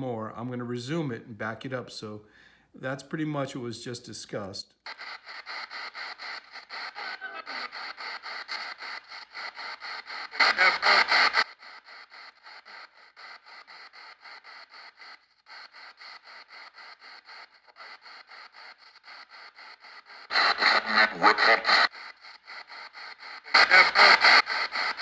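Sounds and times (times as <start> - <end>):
choppy radio static bursts: 4.9 - 25.0.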